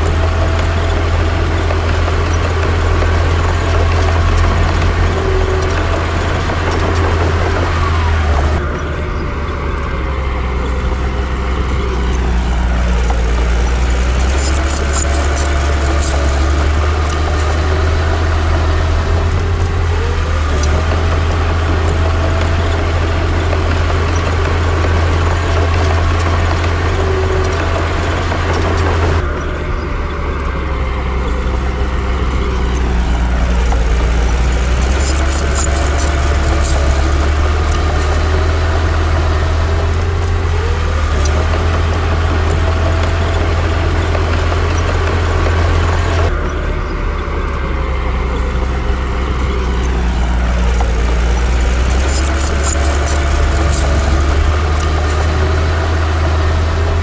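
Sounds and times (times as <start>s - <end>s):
metallic clinking: 0.0s - 29.2s, 30.4s - 45.8s, 47.4s - 57.0s
bulldozer diesel engine under load: 0.0s - 57.0s.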